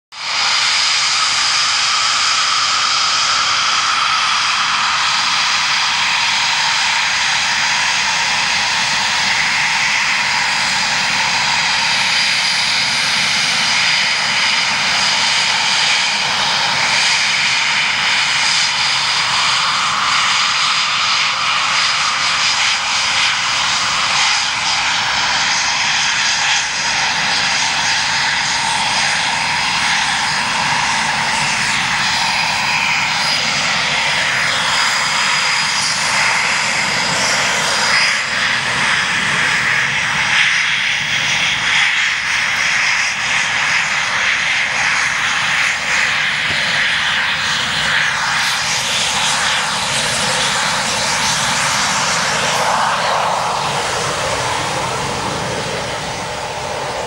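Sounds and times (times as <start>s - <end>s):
jet engines whining: 0.1s - 57.0s.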